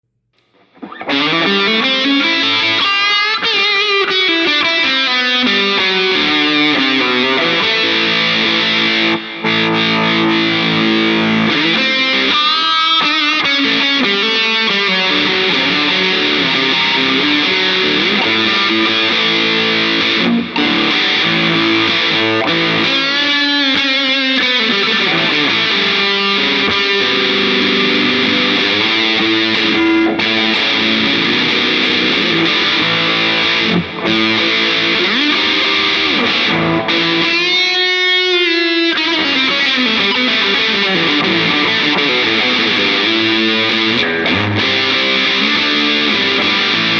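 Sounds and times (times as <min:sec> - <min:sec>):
overdriven electric guitar: 0:00.4 - 0:46.9.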